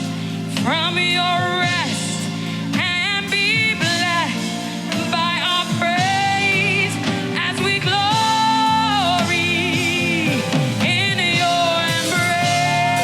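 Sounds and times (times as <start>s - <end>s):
keyboard and band accompaniment: 0.0s - 13.0s
solo voice singing: 0.0s - 13.0s.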